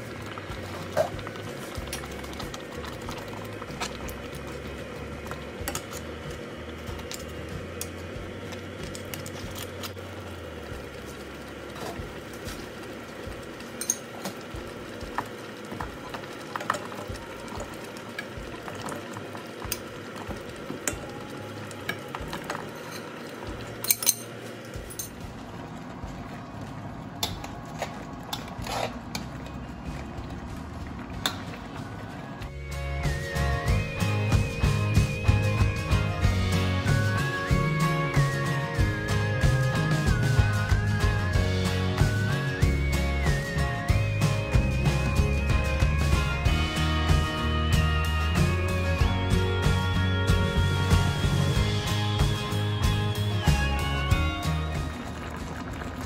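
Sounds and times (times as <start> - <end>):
crabs simmering and bubbling: 0.0 - 46.8, 51.1 - 56.0.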